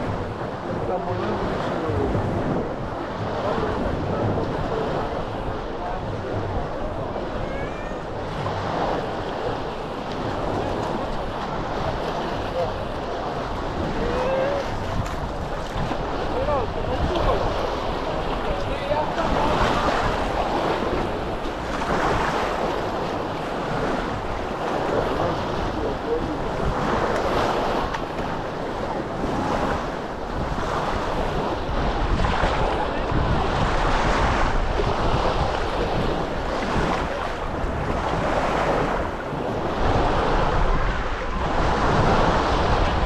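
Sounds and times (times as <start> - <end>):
small waves breaking on beach: 0.0 - 43.0
wind buffeting microphone: 0.0 - 43.0.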